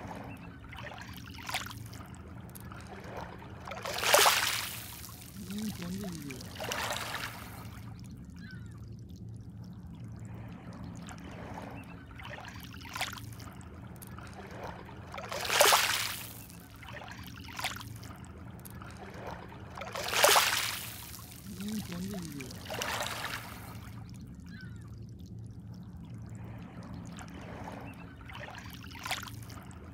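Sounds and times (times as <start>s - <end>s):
waves lapping over pebbles: 0.0s - 7.9s, 10.4s - 24.1s, 26.4s - 29.9s
faint low hum: 0.0s - 29.9s.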